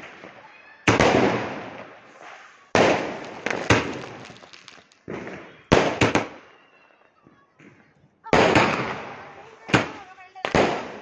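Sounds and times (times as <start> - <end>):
fireworks bursting: 0.0 - 6.7, 8.3 - 11.0.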